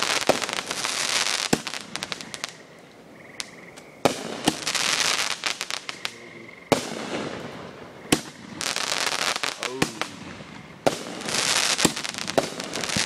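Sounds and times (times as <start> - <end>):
fireworks bangs: 0.0 - 2.6, 3.4 - 13.0
fireworks crackling hiss: 0.0 - 13.0.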